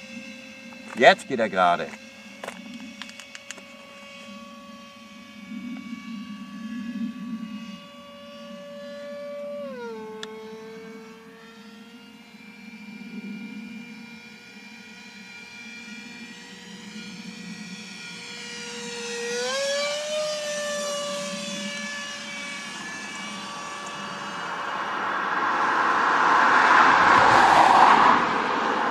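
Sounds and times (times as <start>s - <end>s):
model jet fan whining: 0.0s - 28.9s.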